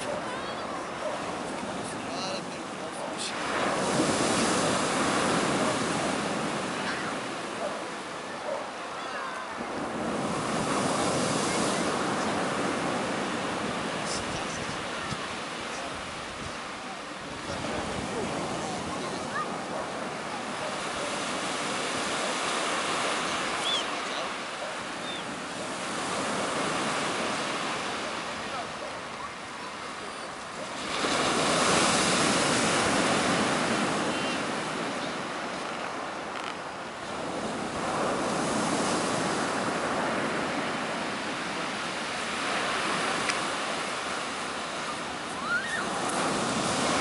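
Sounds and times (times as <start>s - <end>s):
surf washing up pebble beach: 0.0s - 47.0s.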